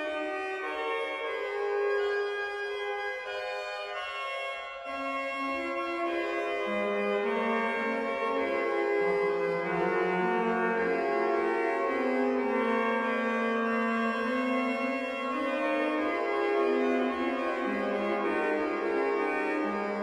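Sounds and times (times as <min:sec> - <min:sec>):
pipe organ playing held notes: 0:00.0 - 0:20.0.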